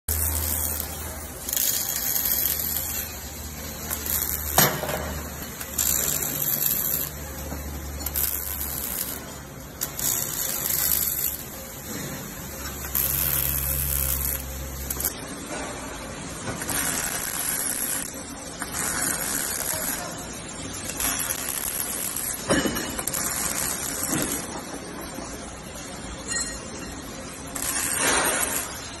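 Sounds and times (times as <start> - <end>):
welding arc crackling and hissing: 0.0 - 15.3, 16.3 - 25.2, 27.3 - 29.0.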